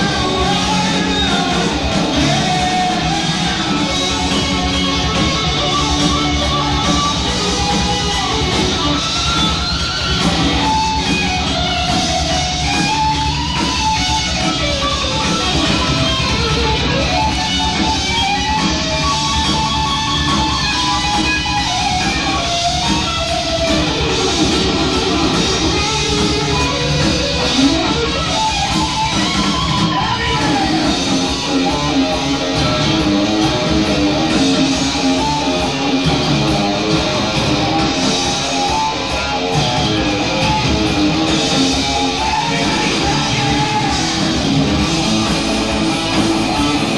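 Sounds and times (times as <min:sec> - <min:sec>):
bass guitar: 0:00.0 - 0:46.9
distorted electric guitar lead: 0:00.0 - 0:46.9
drums: 0:00.0 - 0:46.9.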